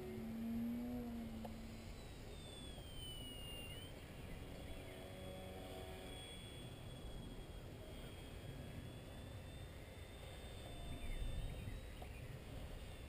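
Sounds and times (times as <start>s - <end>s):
model plane motor whine: 0.0s - 13.0s
wind rumble on microphone: 0.0s - 13.0s.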